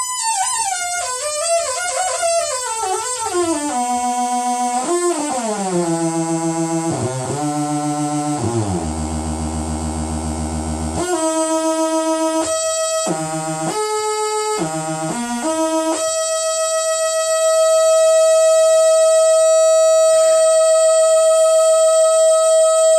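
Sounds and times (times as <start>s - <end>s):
buzzy synthesizer tone: 0.0s - 22.9s.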